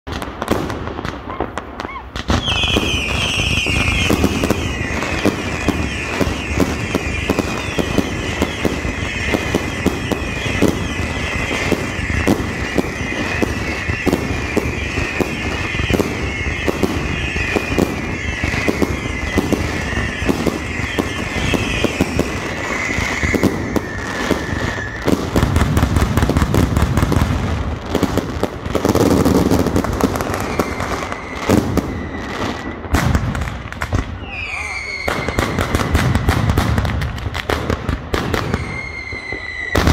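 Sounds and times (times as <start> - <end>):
firecrackers exploding: 0.0 - 39.9
whistling fireworks: 0.0 - 39.9
deep firework bangs: 0.1 - 39.9.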